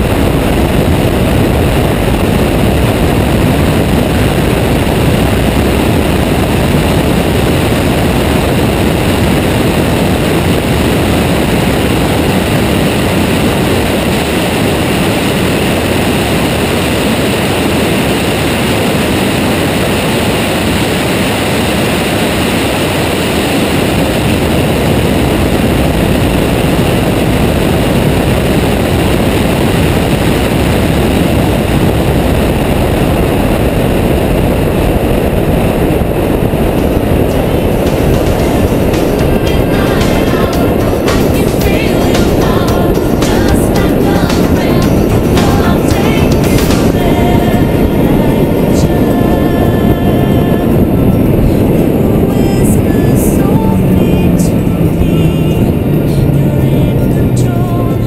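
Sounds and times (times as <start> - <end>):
car engine at speed: 0.0 - 58.0
wind and road noise: 0.0 - 58.0.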